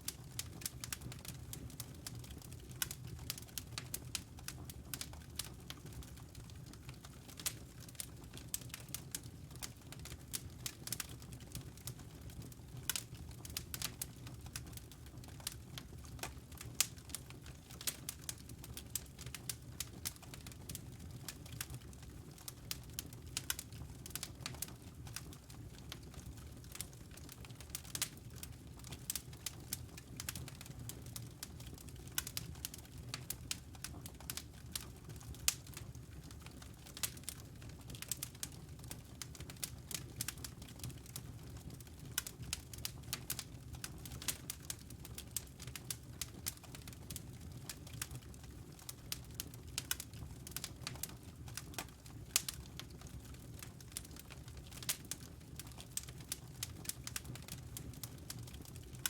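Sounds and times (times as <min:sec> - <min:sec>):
logs crackling in fireplace: 0:00.0 - 0:59.0
low rumble of flames: 0:00.1 - 0:59.0.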